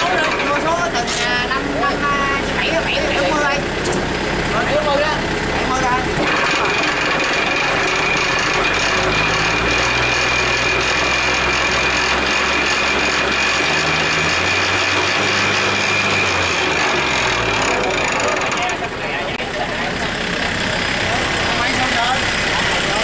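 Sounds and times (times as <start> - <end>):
high whine of rotary tiller: 0.0 - 23.0
tractor engine running: 0.0 - 23.0.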